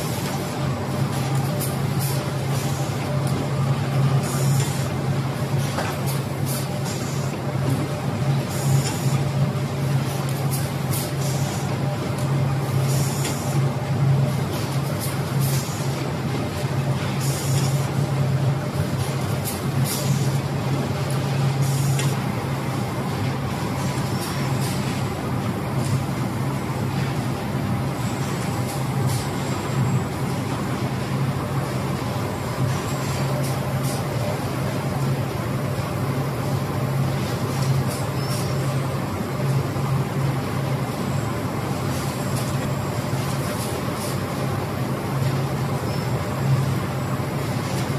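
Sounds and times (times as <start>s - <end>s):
production line machinery humming: 0.0s - 47.9s.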